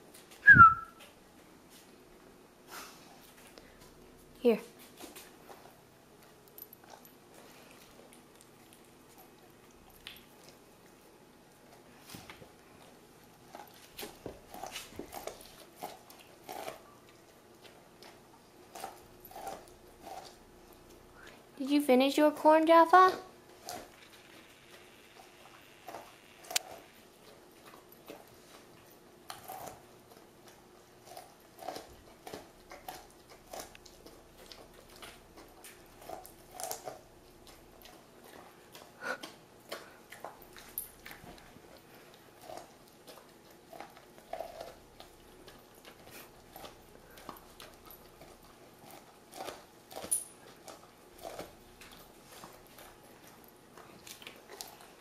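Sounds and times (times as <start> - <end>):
dog gnawing on corn cob: 2.7 - 55.0.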